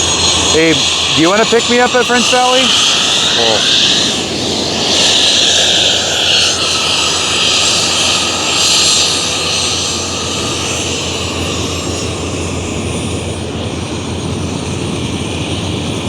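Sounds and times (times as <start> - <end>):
aircraft engine hiss and whine: 0.0 - 16.0.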